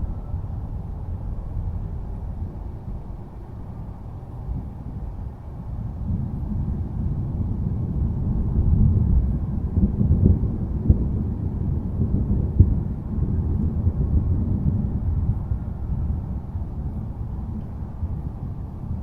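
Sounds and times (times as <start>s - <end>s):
thunderstorm rumbling: 0.0s - 19.0s.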